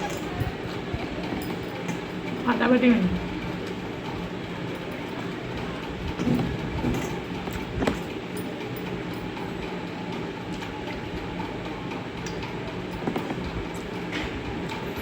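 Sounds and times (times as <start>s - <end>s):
mechanical rumble with low hum: 0.0s - 15.0s.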